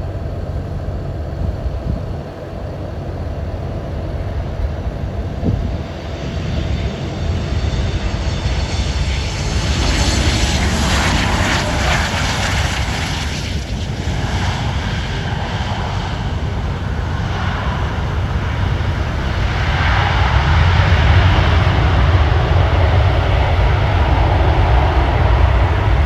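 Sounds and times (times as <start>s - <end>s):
airliner engines rumbling: 0.0s - 26.0s.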